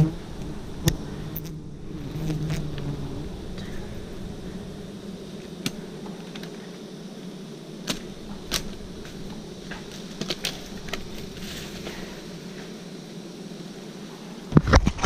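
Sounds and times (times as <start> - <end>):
honeybee swarm buzzing: 0.0 - 15.0.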